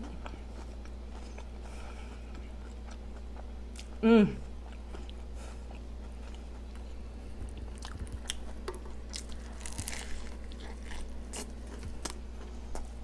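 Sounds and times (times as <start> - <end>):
chewing crunches: 0.0 - 13.0.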